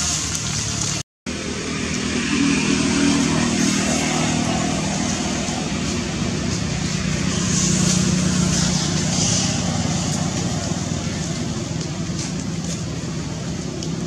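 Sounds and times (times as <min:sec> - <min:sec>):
engine hum with hiss: 0:00.0 - 0:14.0.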